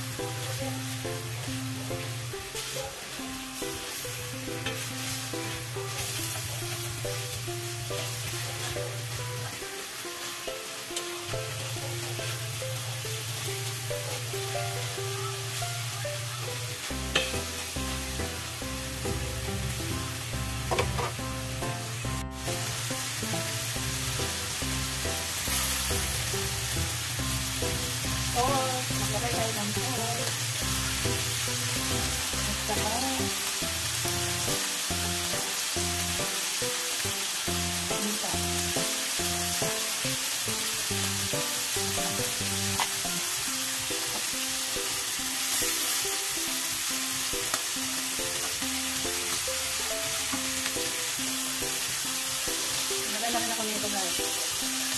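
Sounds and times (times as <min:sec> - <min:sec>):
background music: 0:00.0 - 0:54.9
chicken sizzling in oil: 0:00.0 - 0:54.9.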